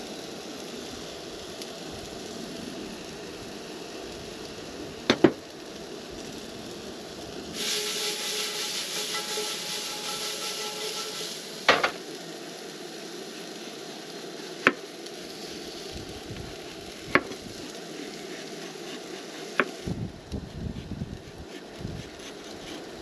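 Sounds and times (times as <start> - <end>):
food sizzling in skillet: 0.0 - 23.0.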